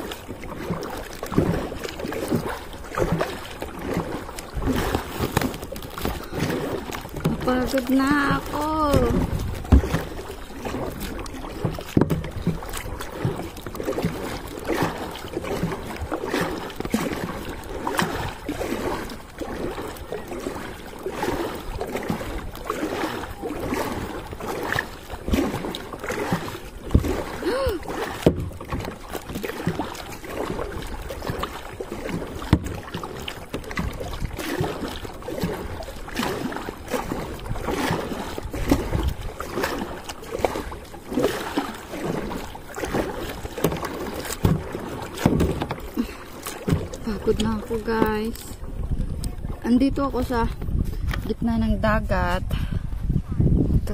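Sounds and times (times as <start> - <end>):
paddle splashing in water: 0.0 - 53.9
water sloshing: 0.0 - 53.9.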